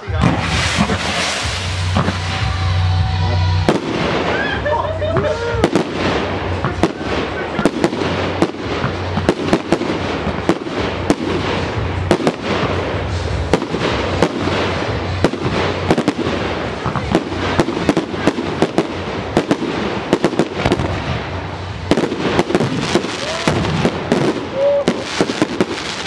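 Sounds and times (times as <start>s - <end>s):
fireworks crackling: 0.0s - 26.0s
fireworks launching and bursting: 0.0s - 26.0s.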